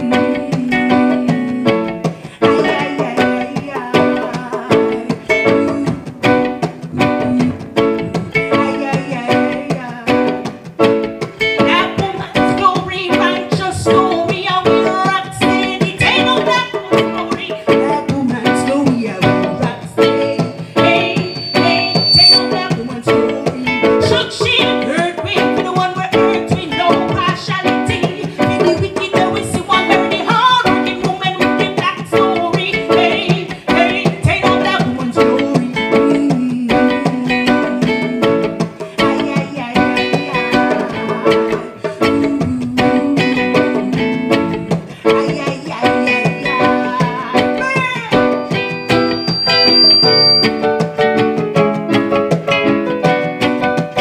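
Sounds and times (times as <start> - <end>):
person singing: 0.0 - 49.8
acoustic guitar strumming: 0.0 - 54.0
drums: 0.0 - 54.0.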